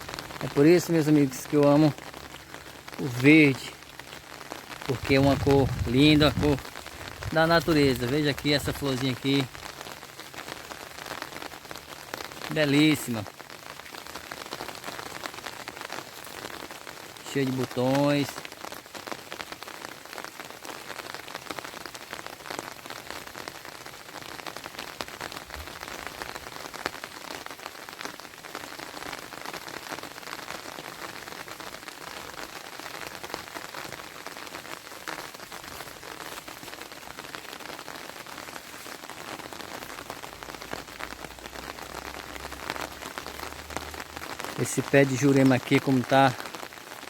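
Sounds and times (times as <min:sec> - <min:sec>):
rain drops pattering: 0:00.0 - 0:47.0.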